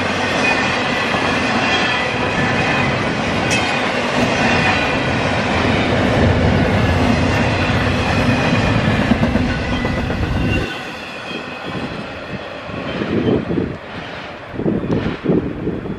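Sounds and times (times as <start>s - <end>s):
freight train wheels rumbling: 0.0s - 15.9s.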